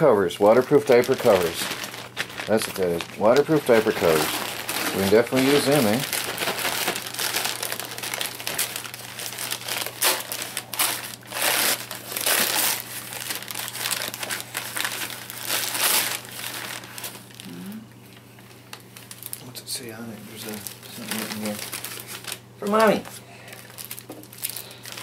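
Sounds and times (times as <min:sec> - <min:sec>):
plastic and paper crinkling: 0:00.0 - 0:17.5, 0:18.2 - 0:25.0.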